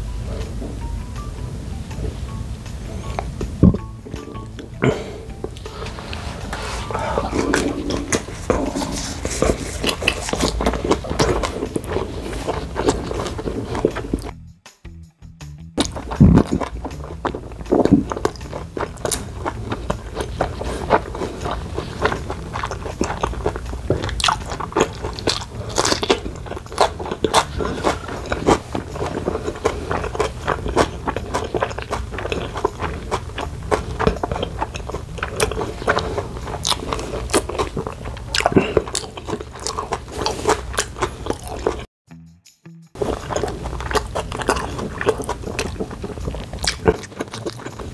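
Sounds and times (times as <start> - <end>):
steady low hum: 0.0 - 14.4, 15.8 - 41.9
chewing with wet mouth clicks: 3.0 - 14.3, 15.8 - 41.9, 43.0 - 47.9.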